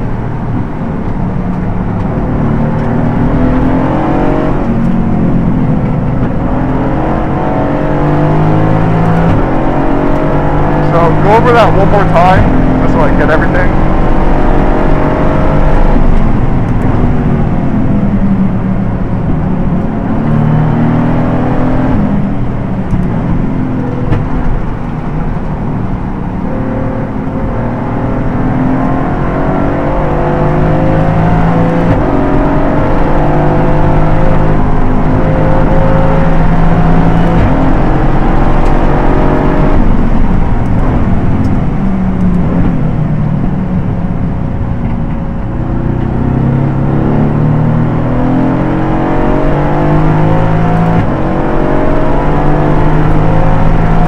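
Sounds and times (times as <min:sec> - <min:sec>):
race car engine accelerating and braking: 0:00.0 - 0:54.0.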